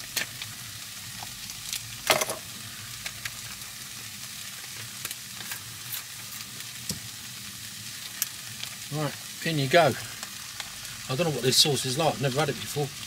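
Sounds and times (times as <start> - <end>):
chicken sizzling in frying pan: 0.0 - 13.0.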